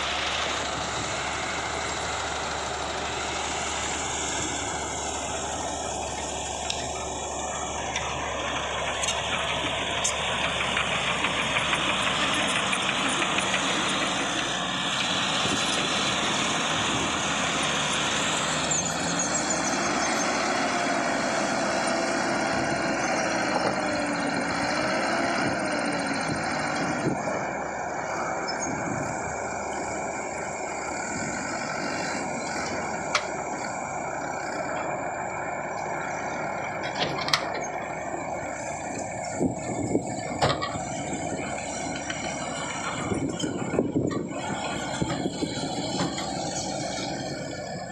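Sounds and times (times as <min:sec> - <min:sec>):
road noise: 0:00.0 - 0:47.9
truck engine running: 0:00.0 - 0:47.9.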